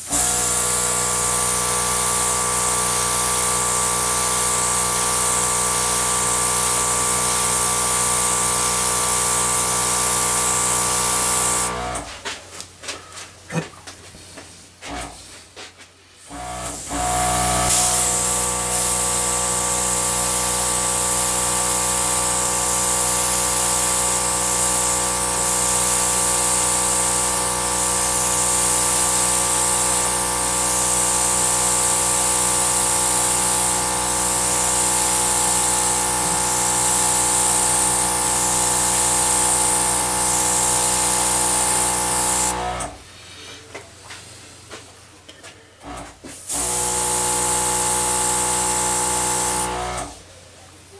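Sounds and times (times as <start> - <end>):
motor running: 0.1 - 12.1, 16.3 - 43.0, 45.8 - 50.2.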